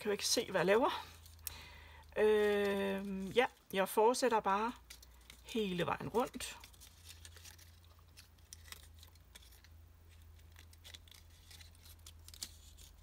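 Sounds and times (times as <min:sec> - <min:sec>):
card stock rustling and ticking: 0:01.2 - 0:13.0.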